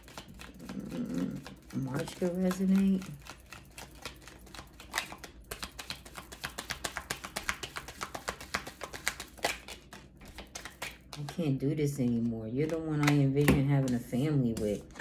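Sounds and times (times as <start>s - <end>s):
cards being shuffled by hand: 0.0s - 15.0s.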